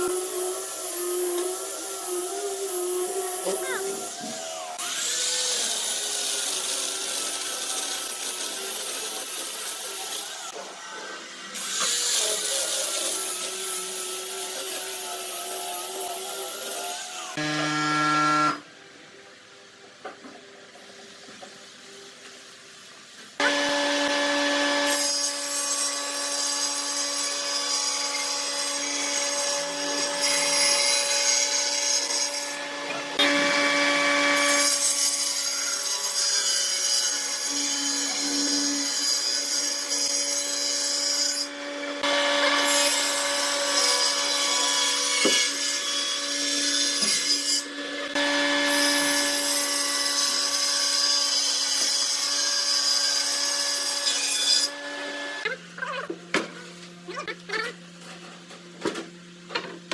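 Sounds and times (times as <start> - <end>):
power tool cutting wood: 0.0 - 18.7, 23.4 - 56.2.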